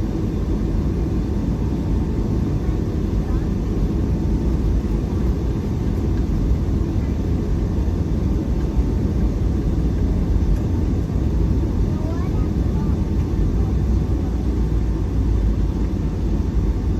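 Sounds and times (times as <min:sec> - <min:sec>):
airplane engines idling in cabin: 0:00.0 - 0:16.9.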